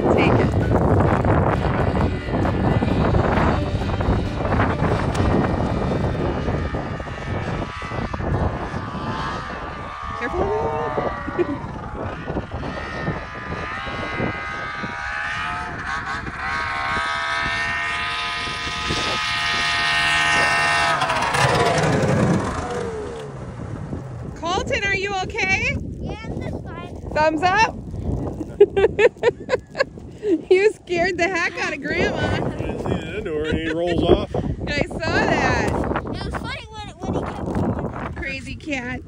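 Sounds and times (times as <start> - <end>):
snowmobile engine running: 0.0 - 39.0.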